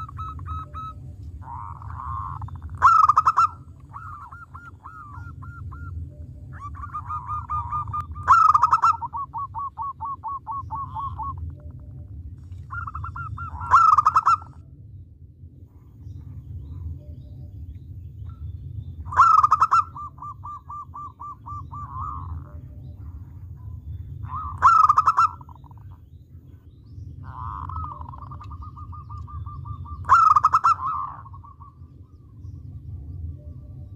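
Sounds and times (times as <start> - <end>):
dove cooing: 0.0 - 14.6, 19.0 - 33.9
steady low hum: 0.0 - 33.9.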